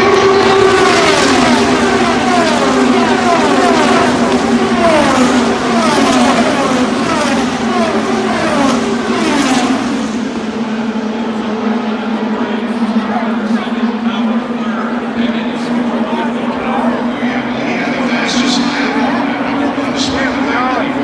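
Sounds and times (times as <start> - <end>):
racing cars passing: 0.0 - 21.0
steady engine drone: 0.0 - 21.0.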